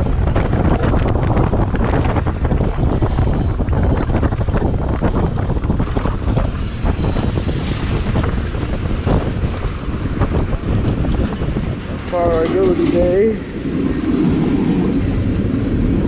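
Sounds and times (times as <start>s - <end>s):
train rumbling and clattering: 0.0s - 16.0s
wind buffeting the microphone: 0.0s - 16.0s.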